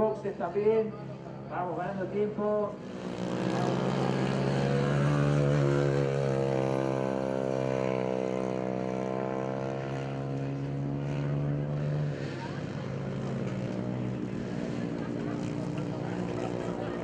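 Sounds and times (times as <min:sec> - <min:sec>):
racing engine at high revs: 0:02.7 - 0:17.0.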